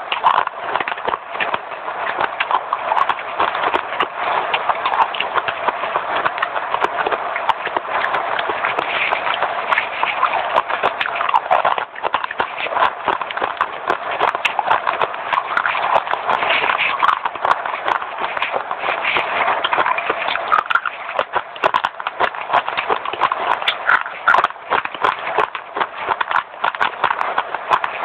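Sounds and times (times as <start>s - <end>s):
person chewing crunchy clay: 0.0s - 28.0s.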